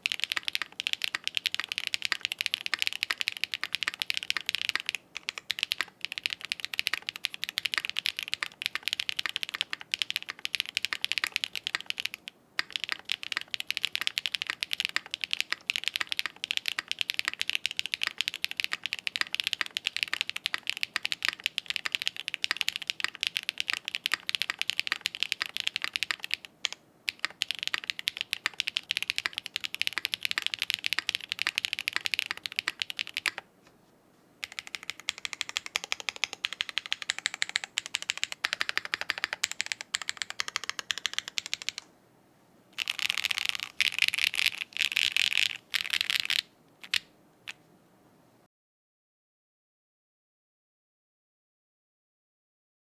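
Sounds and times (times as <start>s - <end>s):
mechanical keyboard typing: 0.0s - 33.4s, 34.4s - 41.9s, 42.8s - 47.1s.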